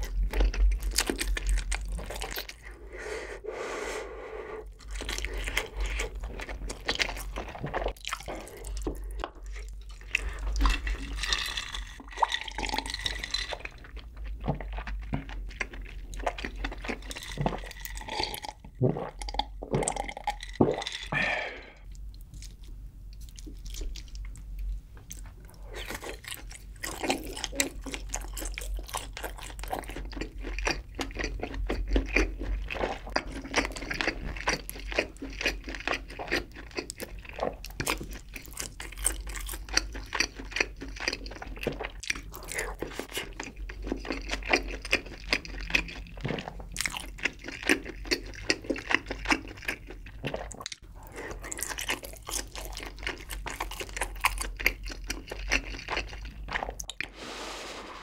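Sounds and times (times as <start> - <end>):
close chewing mouth sounds: 0.0 - 2.8, 4.7 - 21.1, 21.8 - 57.1.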